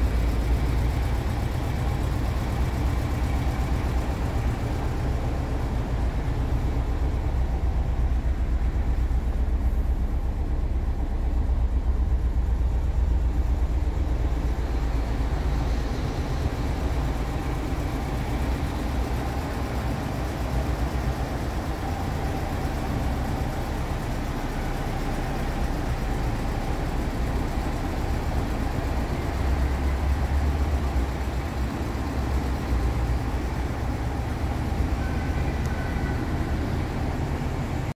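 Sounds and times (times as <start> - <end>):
van engine idling: 0.0 - 37.9.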